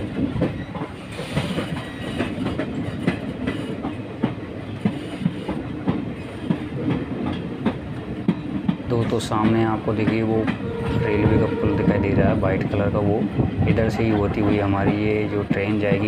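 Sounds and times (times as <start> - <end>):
wheels clacking over rail joints: 0.0 - 13.5
train coach rumbling: 0.0 - 16.0.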